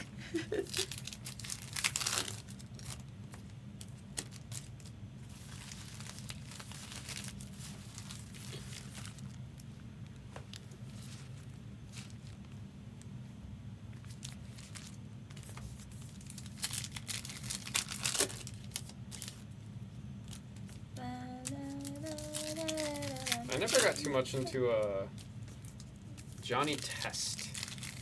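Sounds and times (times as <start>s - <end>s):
foil wrappers crinkling and tearing: 0.5s - 9.7s, 14.0s - 19.6s, 20.2s - 28.0s.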